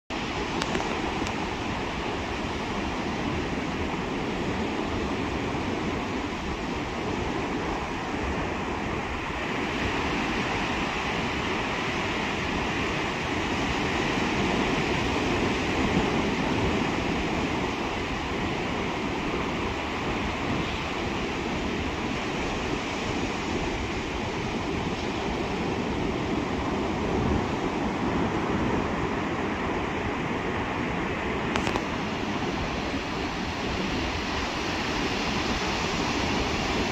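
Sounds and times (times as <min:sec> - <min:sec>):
surf waves washing on beach: 0:00.1 - 0:36.9.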